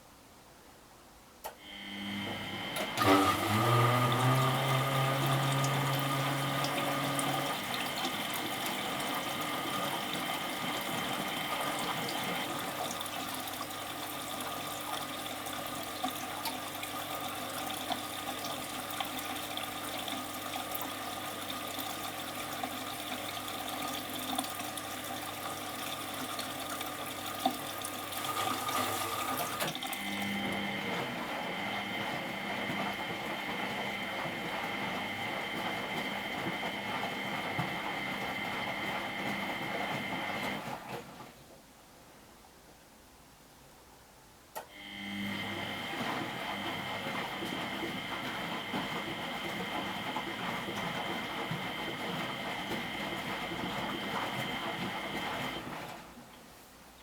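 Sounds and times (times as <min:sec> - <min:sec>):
water rushing into washing machine: 0:01.5 - 0:41.4, 0:44.6 - 0:56.5.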